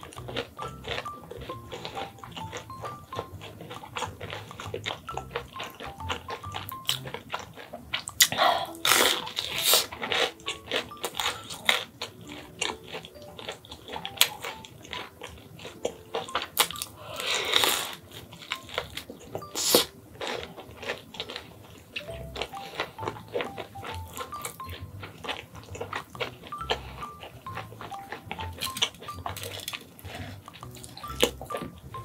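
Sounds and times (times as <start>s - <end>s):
chewing and crunching: 0.0s - 32.0s
faint background music: 0.0s - 32.0s.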